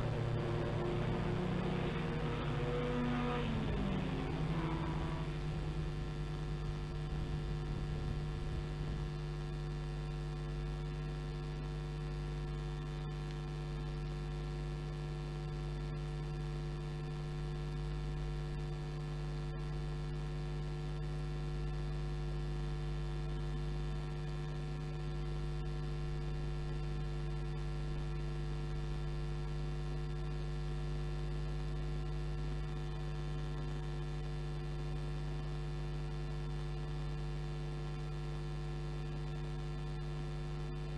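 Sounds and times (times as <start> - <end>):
electrical mains hum: 0.0 - 40.9.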